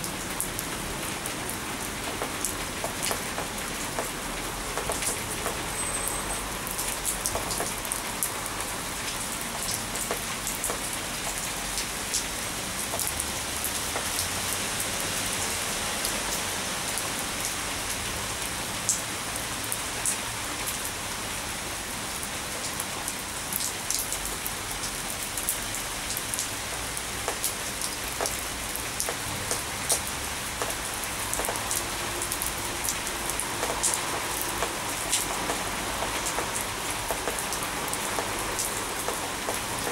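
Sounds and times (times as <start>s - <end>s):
rain on wet paving: 0.0s - 39.9s.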